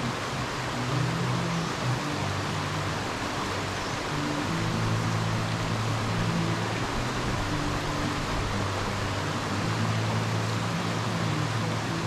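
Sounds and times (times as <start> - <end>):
low held music notes: 0.0 - 12.0
waterfall rushing: 0.0 - 12.0.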